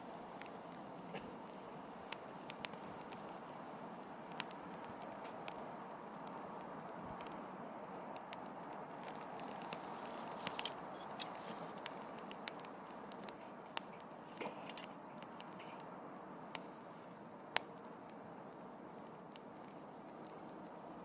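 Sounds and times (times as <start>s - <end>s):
burning wood crackling and popping: 0.0s - 21.0s
rush of campfire flame: 0.0s - 21.0s.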